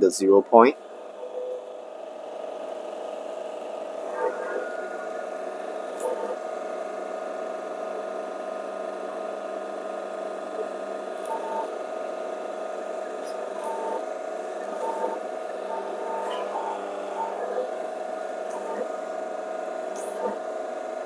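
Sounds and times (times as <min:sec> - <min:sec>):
coffee grinder motor humming: 0:00.8 - 0:21.0.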